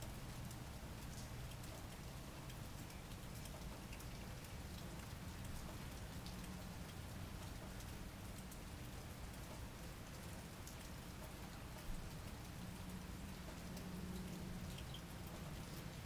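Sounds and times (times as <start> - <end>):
faint rain with ticking raindrops: 0.0 - 16.0.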